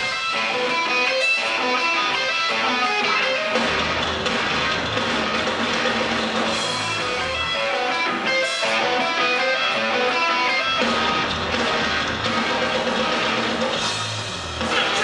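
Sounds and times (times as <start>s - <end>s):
electric guitar: 0.0s - 15.0s
loud rock band playing: 0.0s - 15.0s.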